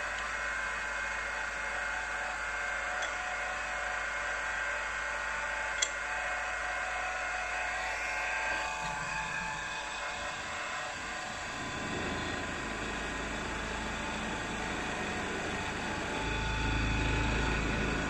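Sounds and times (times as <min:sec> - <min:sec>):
drill spindle whining: 0:00.0 - 0:18.0.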